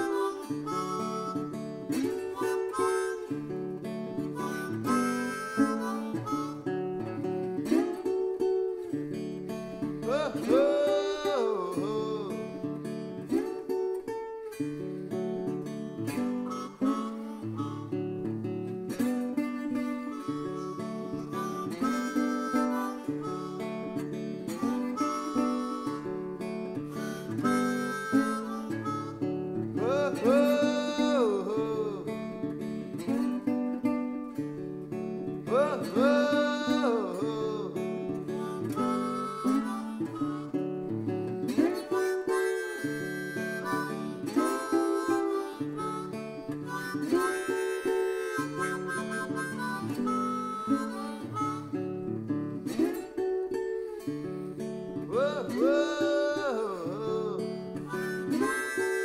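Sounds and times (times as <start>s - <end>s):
harmonica phrases: 0.0s - 59.0s
strummed acoustic guitar: 0.0s - 59.0s.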